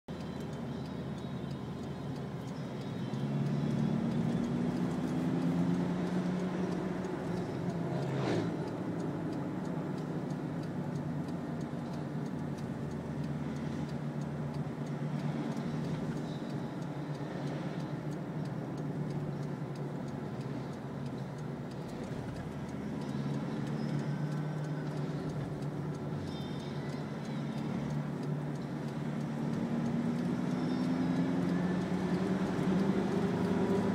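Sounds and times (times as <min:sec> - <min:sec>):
road noise: 0:00.1 - 0:33.9
vehicle engine accelerating: 0:00.1 - 0:33.9.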